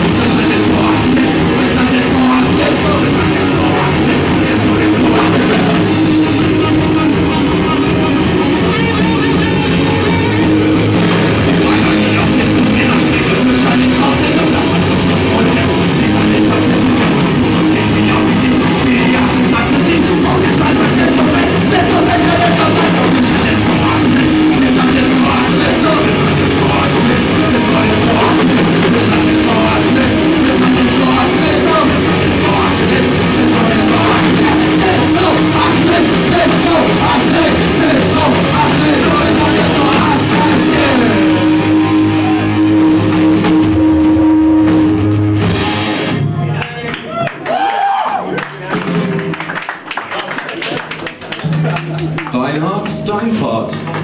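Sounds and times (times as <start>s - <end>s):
person singing: 0.0s - 46.4s
electric guitar: 0.0s - 54.0s
rock band playing loud: 0.0s - 54.0s.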